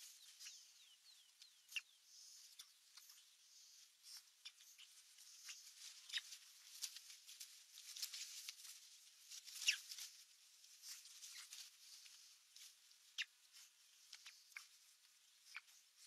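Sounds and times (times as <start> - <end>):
nestlings squeaking and chirping: 0.0 - 16.0.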